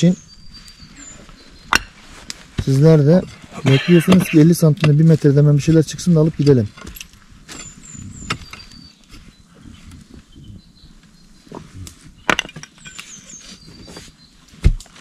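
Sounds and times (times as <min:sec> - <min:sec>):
earth scraping: 0:00.1 - 0:15.0.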